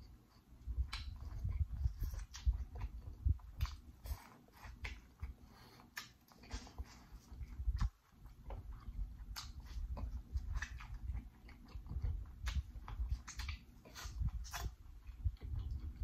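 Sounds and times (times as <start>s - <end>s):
chewing and lip smacking: 0.0s - 16.0s.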